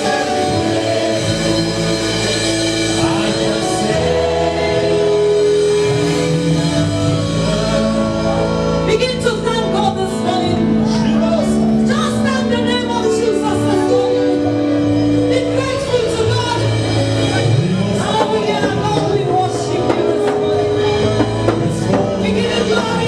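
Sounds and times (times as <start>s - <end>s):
band playing: 0.0s - 23.0s
drums: 0.0s - 23.0s
gospel singing: 0.0s - 23.0s.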